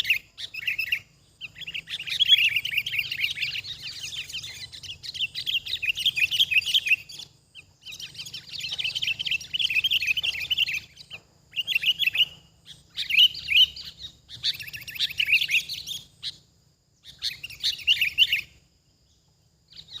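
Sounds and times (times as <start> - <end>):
birds chattering chirps: 0.0 - 20.0.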